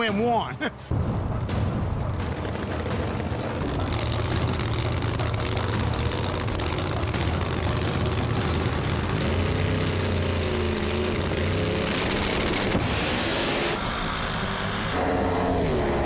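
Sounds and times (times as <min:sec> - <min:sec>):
race car engines at full throttle: 0:01.2 - 0:16.0.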